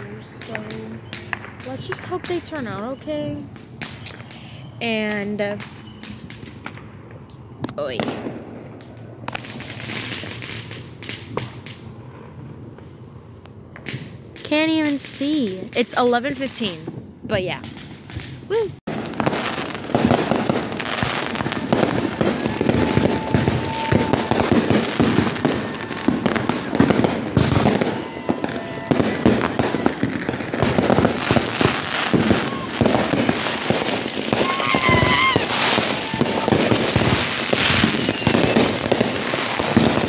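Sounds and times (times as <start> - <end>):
fireworks crackling and banging: 0.0 - 40.0.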